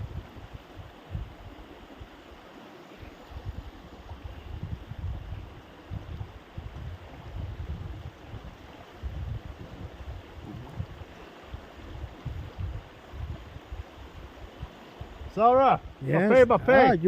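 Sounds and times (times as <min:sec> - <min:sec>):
wind buffeting microphone: 0:00.0 - 0:02.2, 0:03.2 - 0:17.0
faint outdoor hiss: 0:00.0 - 0:17.0.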